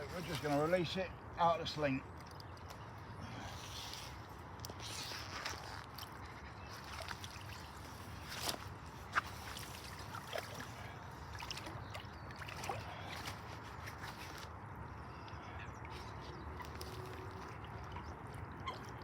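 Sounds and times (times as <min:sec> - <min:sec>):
water sloshing and trickling: 0:00.0 - 0:19.0
small water splashes: 0:02.0 - 0:14.6, 0:15.2 - 0:19.0.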